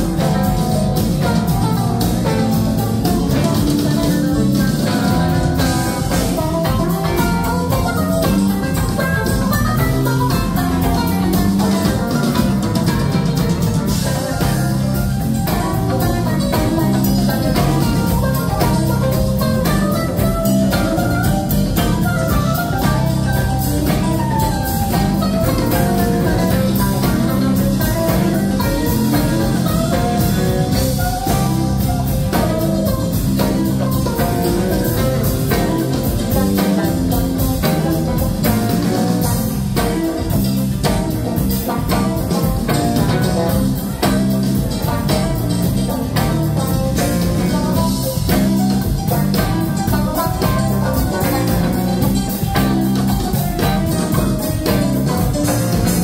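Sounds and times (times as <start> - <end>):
bass guitar pattern: 0.0 - 56.0
drum kit with busy cymbals: 0.0 - 56.0
electric guitar lines: 0.0 - 56.0
keyboards: 0.0 - 56.0.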